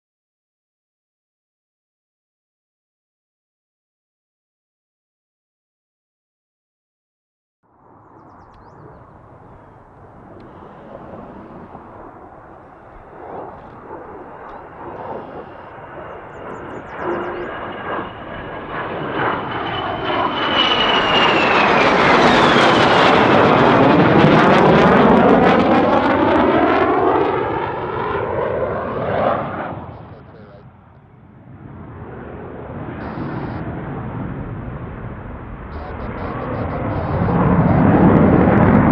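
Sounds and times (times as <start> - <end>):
jet aircraft passing overhead: 7.7 - 38.9.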